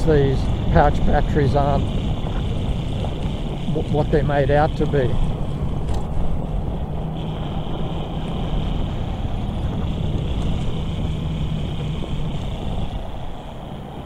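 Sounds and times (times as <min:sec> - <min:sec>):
road noise: 0:00.0 - 0:14.0
steady low hum: 0:00.0 - 0:14.0
wind noise: 0:00.0 - 0:14.0.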